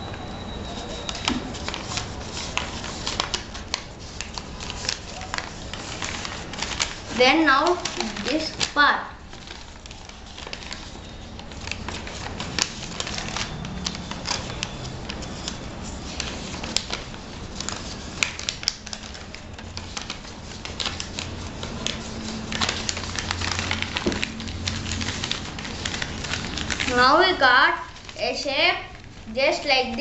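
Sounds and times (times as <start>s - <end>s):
paper being folded and creased: 0.0s - 30.0s.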